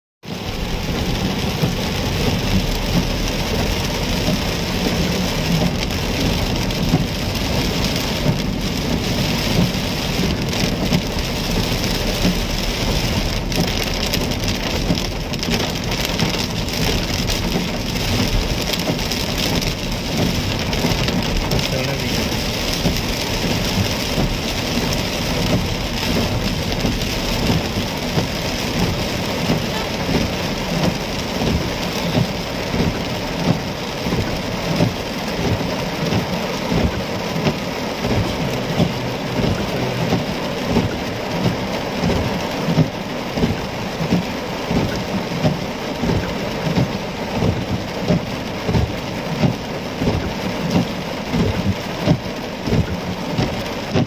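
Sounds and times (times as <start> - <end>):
heavy rain on car roof: 0.2 - 54.0.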